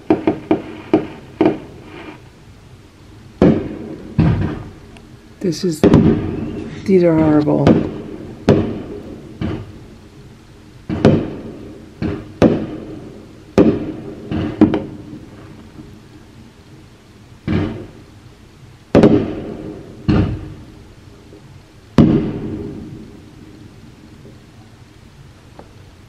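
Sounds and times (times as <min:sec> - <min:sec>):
fireworks bursting: 0:00.0 - 0:24.7.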